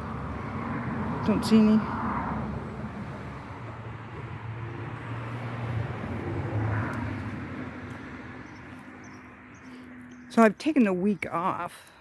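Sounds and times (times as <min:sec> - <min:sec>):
passing motor vehicle: 0:00.0 - 0:11.1.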